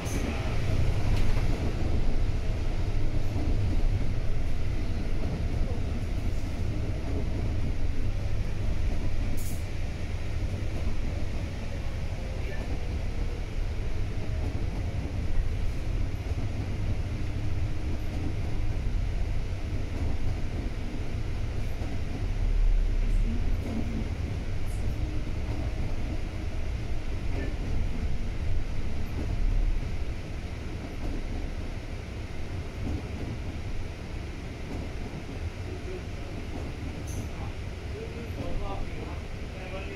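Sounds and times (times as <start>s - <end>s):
bus engine rumble: 0.0s - 39.9s
road noise: 0.0s - 39.9s.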